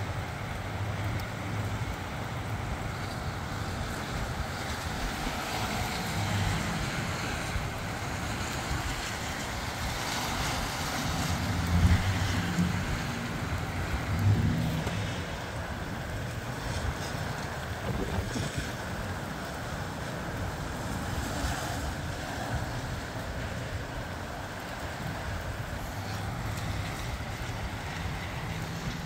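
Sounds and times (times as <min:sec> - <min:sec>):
wind blowing over microphone: 0:03.8 - 0:29.0.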